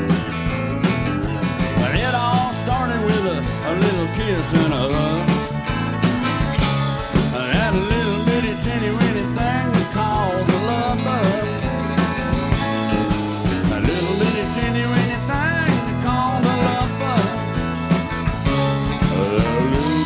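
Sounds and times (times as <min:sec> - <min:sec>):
drums: 0:00.0 - 0:20.0
electric bass: 0:00.0 - 0:20.0
electric guitar with bending notes: 0:00.0 - 0:20.0.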